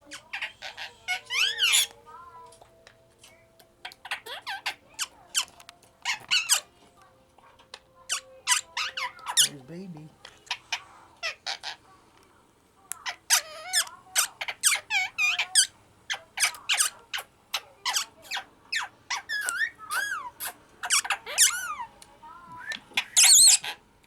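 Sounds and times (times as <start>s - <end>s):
parrots chirping and squawking: 0.0s - 12.0s, 12.9s - 22.0s, 22.6s - 23.9s.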